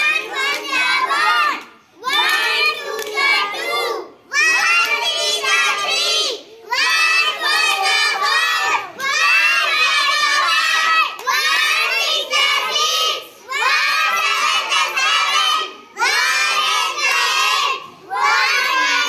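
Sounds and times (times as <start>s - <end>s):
children chanting in unison: 0.0s - 19.0s.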